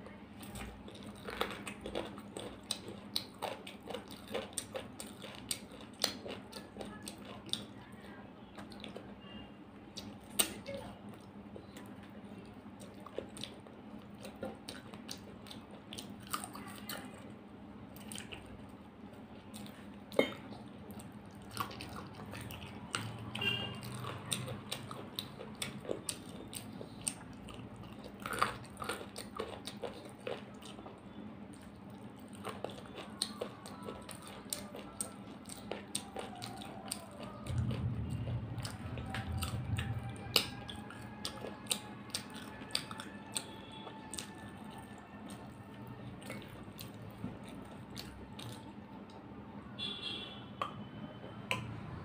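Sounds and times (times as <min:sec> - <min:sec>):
chewing and lip-smacking: 0:00.0 - 0:17.3, 0:17.9 - 0:49.2.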